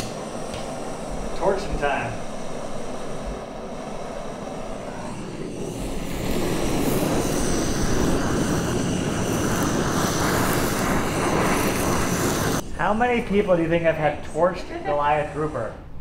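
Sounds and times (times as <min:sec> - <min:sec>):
butane torch hissing: 0:00.0 - 0:16.0.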